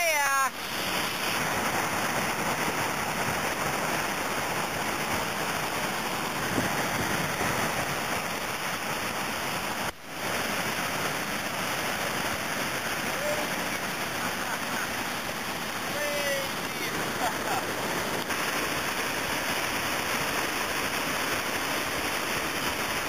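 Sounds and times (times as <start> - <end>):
whitewater rushing: 0.0 - 23.0.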